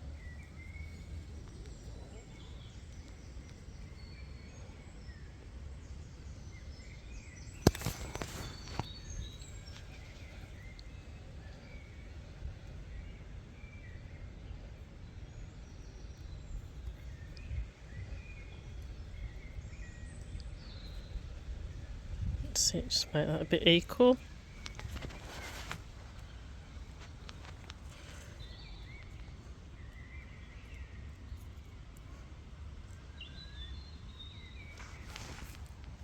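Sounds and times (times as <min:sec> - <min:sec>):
small birds chirping: 0:00.0 - 0:36.0
wind rumbling on microphone: 0:00.0 - 0:36.0.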